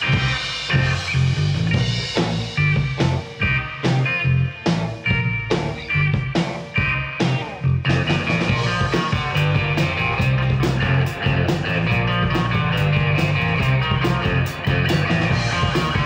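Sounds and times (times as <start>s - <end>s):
drum kit beat: 0.0s - 16.0s
electric bass: 0.0s - 16.0s
electric guitars: 0.0s - 16.0s.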